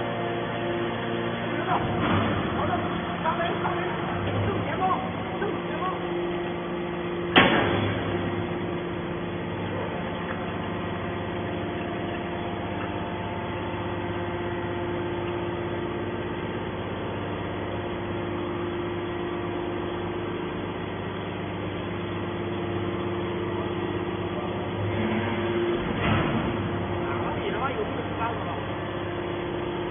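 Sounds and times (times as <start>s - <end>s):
hydraulic power unit humming: 0.0s - 29.9s.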